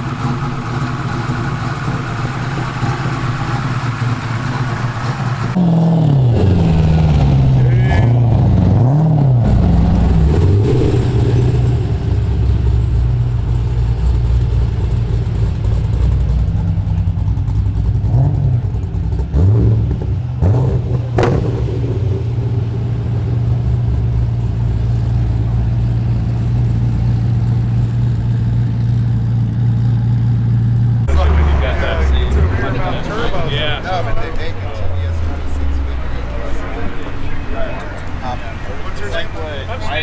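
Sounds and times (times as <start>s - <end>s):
car engine idling and blipping: 0.0s - 40.0s.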